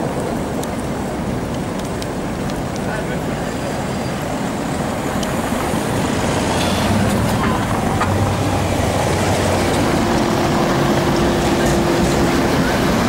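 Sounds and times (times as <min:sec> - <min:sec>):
street traffic passing: 0:00.0 - 0:13.0
trams rumbling: 0:00.0 - 0:13.0.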